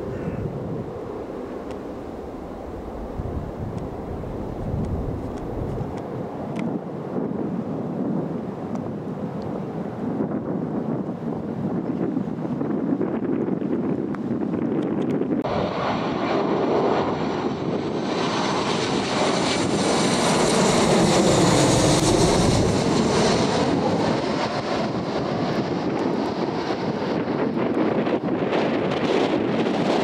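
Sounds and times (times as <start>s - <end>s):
jet engines passing: 0.0s - 12.8s, 15.2s - 30.0s
wind buffeting microphone: 0.0s - 30.0s.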